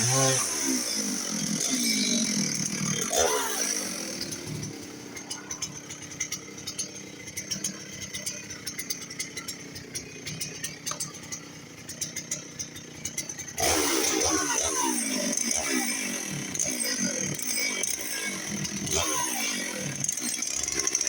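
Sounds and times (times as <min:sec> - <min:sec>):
chainsaw idling and revving: 0:00.0 - 0:21.0.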